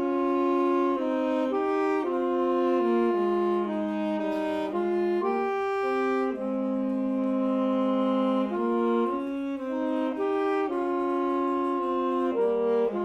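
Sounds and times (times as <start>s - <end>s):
saxophones playing held notes: 0.0s - 13.0s.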